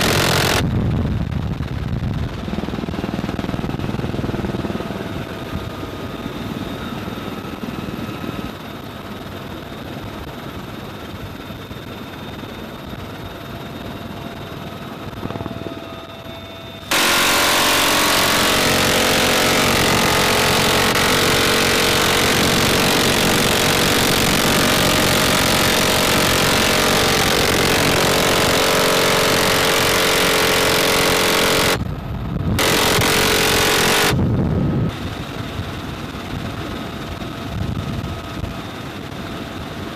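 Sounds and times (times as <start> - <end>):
helicopter turbine whine and rotor: 0.0 - 39.9
loud harsh continuous noise: 0.0 - 39.9.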